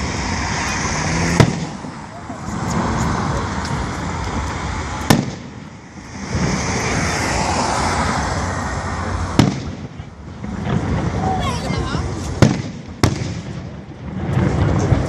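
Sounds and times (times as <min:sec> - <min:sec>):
firework bangs: 0:00.0 - 0:15.0
firework crackling: 0:00.0 - 0:15.0.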